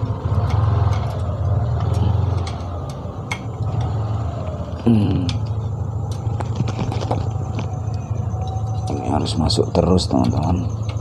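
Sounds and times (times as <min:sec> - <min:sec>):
low pulsing engine-like rumble: 0:00.0 - 0:11.0.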